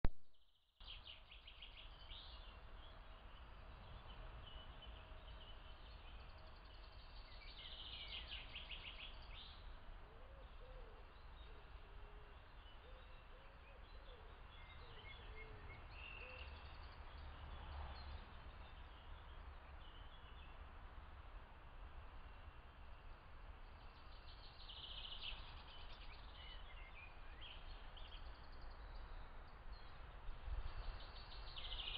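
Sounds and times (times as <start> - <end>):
distant songbirds trilling: 0.4 - 31.9
microphone rumble and hiss: 0.8 - 31.9.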